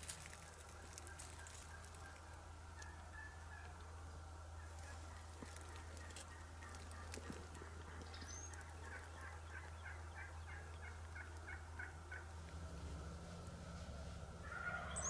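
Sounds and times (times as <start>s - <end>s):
turkey calling: 0.3s - 12.4s, 14.4s - 15.0s.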